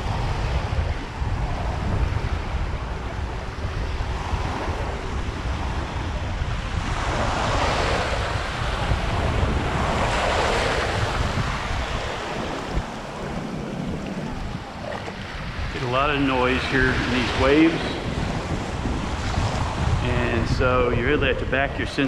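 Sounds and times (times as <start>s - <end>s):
ocean surf washing: 0.0s - 22.0s
wind rumble on microphone: 0.0s - 22.0s.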